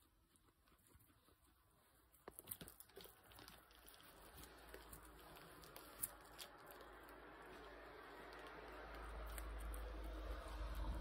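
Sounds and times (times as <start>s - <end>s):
guinea pigs chewing leaves: 0.0s - 11.0s.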